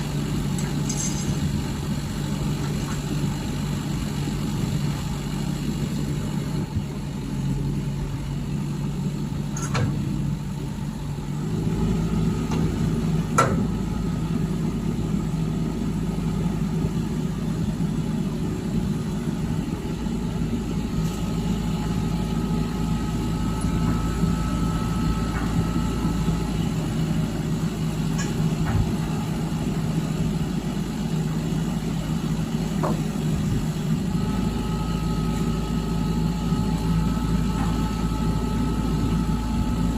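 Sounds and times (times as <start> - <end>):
lorry diesel engine running: 0.0 - 39.9.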